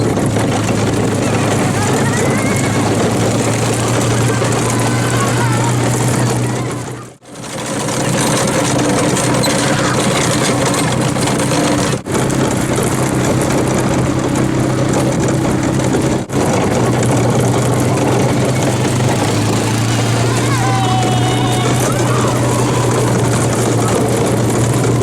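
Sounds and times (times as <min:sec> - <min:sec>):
rattling noise: 0:00.0 - 0:25.0
tow vehicle engine running: 0:00.0 - 0:25.0.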